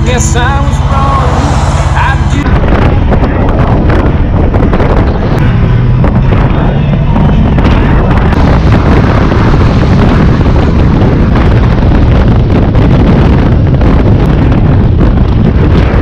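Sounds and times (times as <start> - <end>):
motorcycle ride rush: 0.0 - 16.0
wind buffeting microphone: 0.0 - 16.0.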